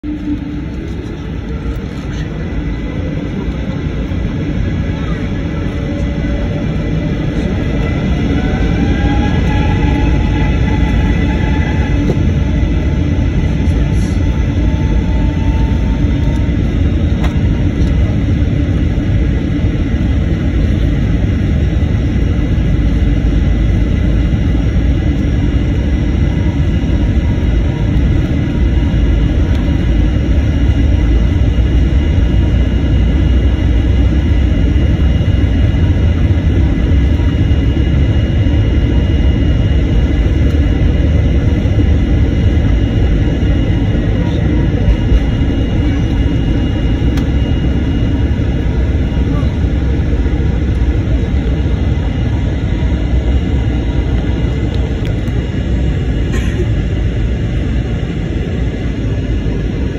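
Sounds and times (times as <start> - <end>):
airplane engines rumbling: 0.0 - 59.9.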